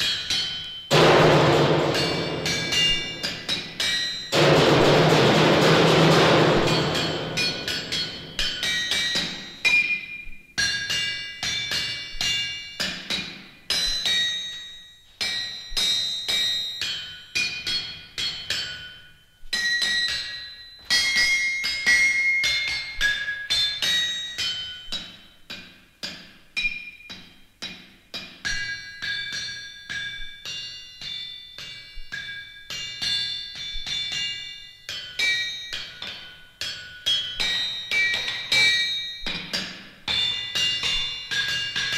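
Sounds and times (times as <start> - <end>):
hammers striking anvils: 0.0 - 14.4, 19.6 - 41.9.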